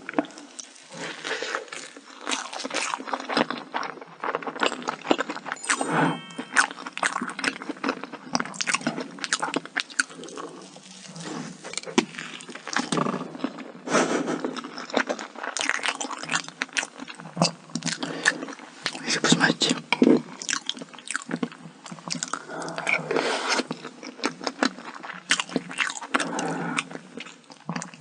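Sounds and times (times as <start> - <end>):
biting and chewing cake: 0.0 - 5.6, 7.0 - 28.0.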